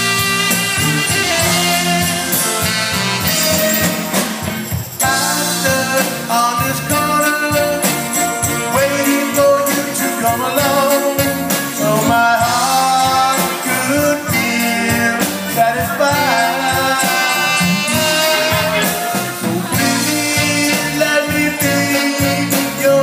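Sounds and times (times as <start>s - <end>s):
drums: 0.0s - 23.0s
electric guitar: 0.0s - 23.0s
jingling hand percussion: 0.0s - 23.0s
trumpet and saxophone horns: 0.0s - 23.0s.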